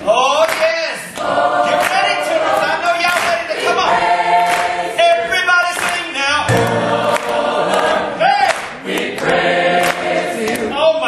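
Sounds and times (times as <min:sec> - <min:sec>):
gospel choir singing: 0:00.1 - 0:05.7, 0:06.4 - 0:11.0.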